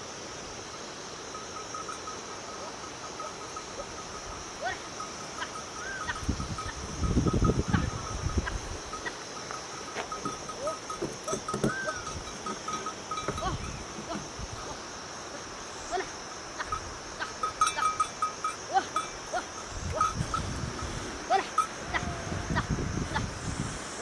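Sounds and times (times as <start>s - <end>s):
high-pitched hiss: 0.0s - 24.0s
sheep bells clinking: 1.3s - 14.6s, 15.9s - 22.6s.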